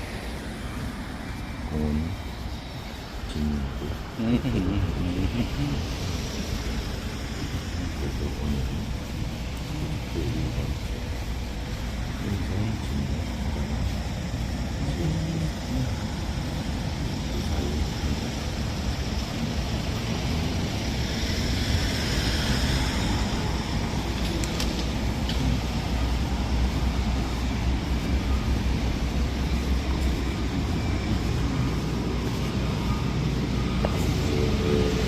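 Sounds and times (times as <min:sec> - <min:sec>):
hiss: 0:00.0 - 0:35.0
paving machinery engine rumble: 0:00.0 - 0:35.0.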